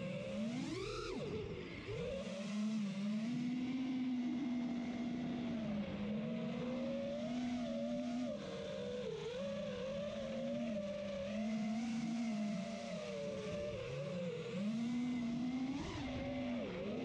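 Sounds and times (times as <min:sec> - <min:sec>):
motor running with buzzing overtone: 0:00.0 - 0:17.0.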